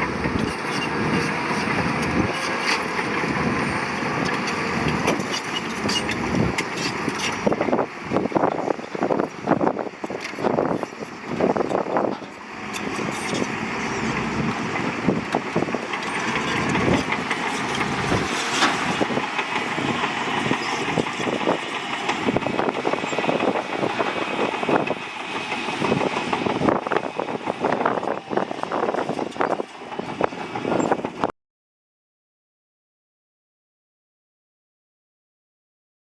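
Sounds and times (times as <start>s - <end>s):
diesel engine running: 0.0s - 31.3s
metallic clanking of steel tracks: 0.0s - 31.3s.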